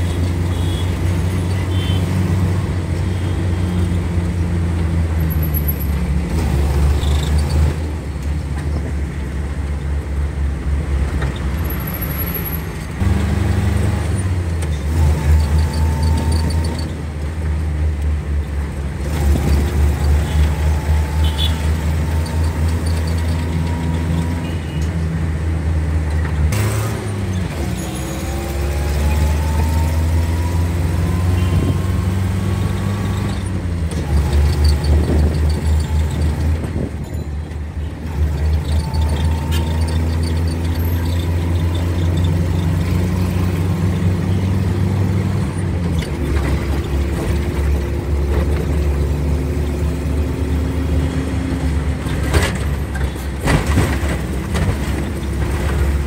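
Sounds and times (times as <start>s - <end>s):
bus engine running under load: 0.0s - 56.0s.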